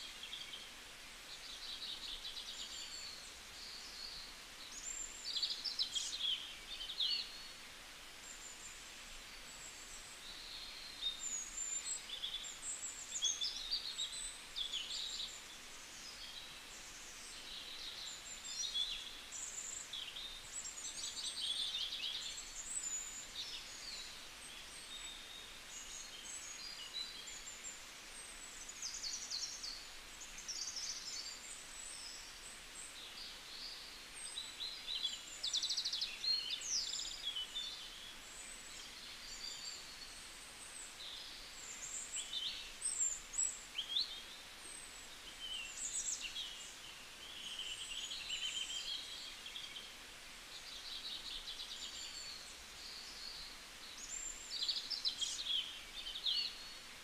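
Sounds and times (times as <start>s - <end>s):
faint steady hiss: 0.0s - 57.0s
small birds chirping: 0.0s - 57.0s.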